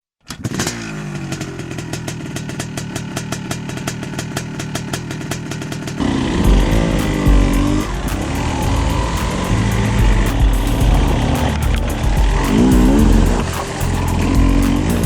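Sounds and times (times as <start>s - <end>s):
motorcycle engine idling and revving: 0.3s - 15.0s.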